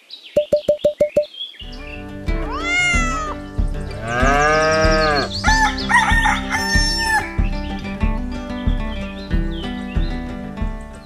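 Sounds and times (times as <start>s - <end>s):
birds chirping: 0.0s - 11.0s
music: 1.6s - 11.0s.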